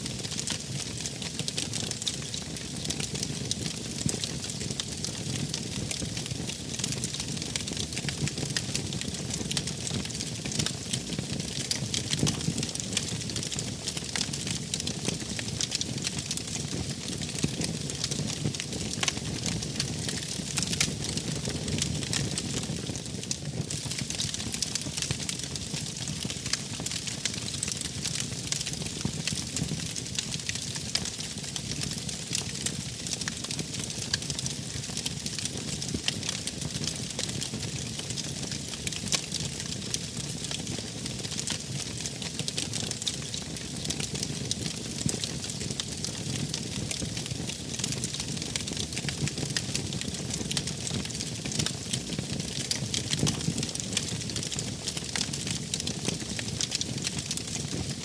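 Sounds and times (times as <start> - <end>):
low rumble of flames: 0.1 - 58.0
wood fire crackling and popping: 0.1 - 58.0.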